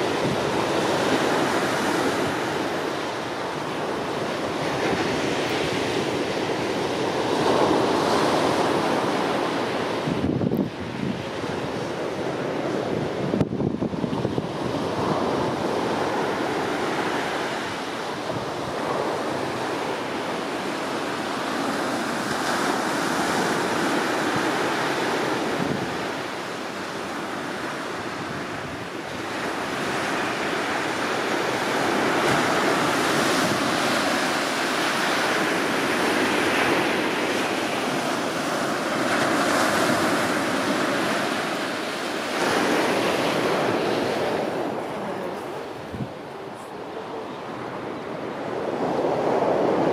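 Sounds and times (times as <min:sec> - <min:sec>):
surf rushing: 0:00.0 - 0:49.9
wind buffeting microphone: 0:00.0 - 0:49.9.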